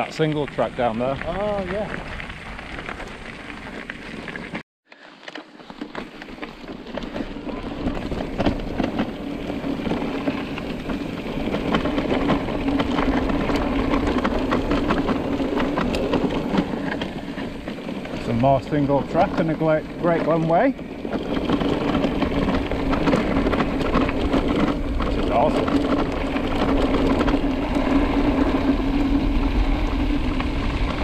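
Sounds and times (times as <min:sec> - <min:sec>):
bike tyres rolling over gravel: 0:00.0 - 0:31.0.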